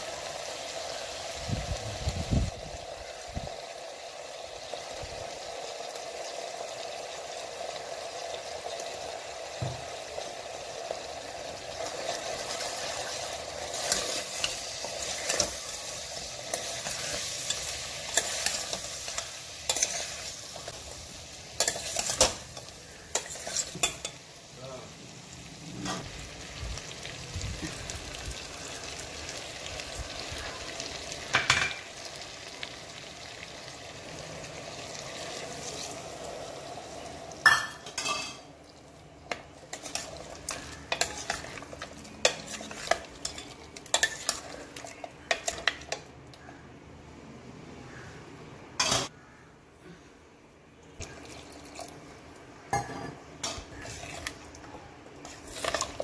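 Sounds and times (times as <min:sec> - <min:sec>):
chicken sizzling in a pot: 0:00.0 - 0:46.5, 0:51.0 - 0:56.0.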